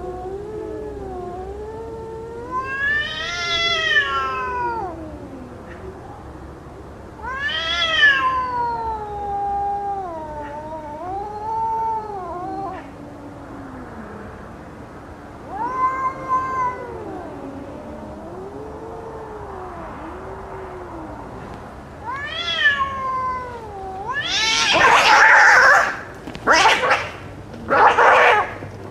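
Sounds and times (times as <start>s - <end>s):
cats yowling: 0.0s - 6.4s, 7.1s - 14.6s, 15.4s - 28.9s
cats growling: 0.0s - 28.9s.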